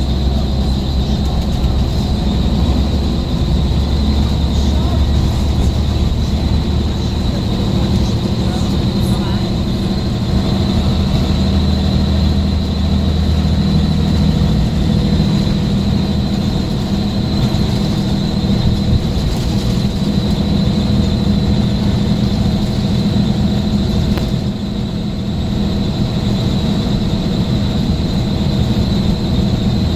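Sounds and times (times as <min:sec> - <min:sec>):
bus engine running: 0:00.0 - 0:29.9.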